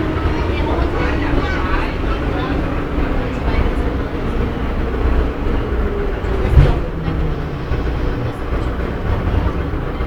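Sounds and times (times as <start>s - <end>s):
metro train rumbling: 0.0s - 10.0s.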